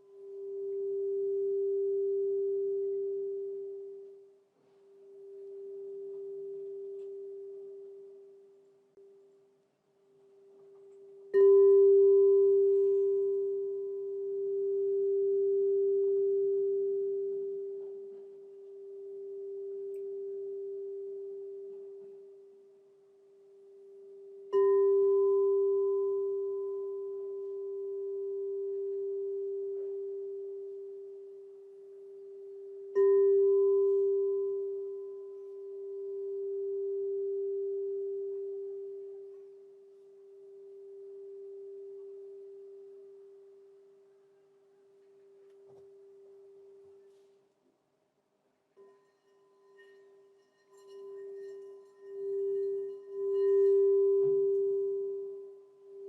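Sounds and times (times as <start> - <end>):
crystal singing bowl ringing: 0.0 - 4.4, 5.0 - 8.6, 10.5 - 44.0, 48.8 - 56.0.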